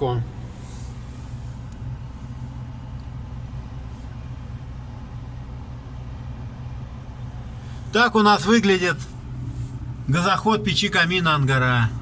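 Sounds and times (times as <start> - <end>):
low background rumble and hum: 0.0 - 12.0.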